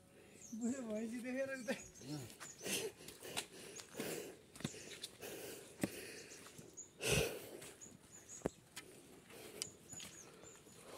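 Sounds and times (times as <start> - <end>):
footsteps on forest trail: 0.7 - 10.9.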